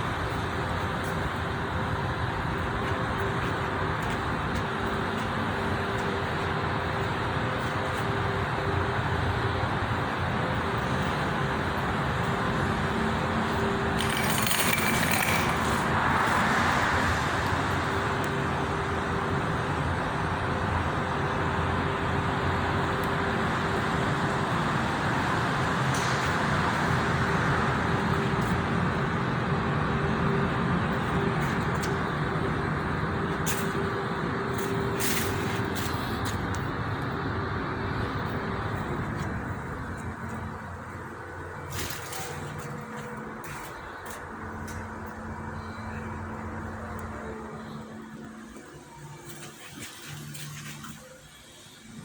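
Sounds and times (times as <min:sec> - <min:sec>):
motor vehicle humming: 0:00.0 - 0:52.0.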